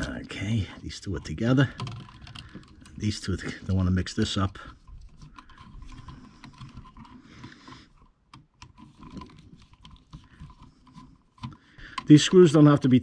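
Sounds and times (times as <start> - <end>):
wires and receptacle rattling: 0.0 - 13.0.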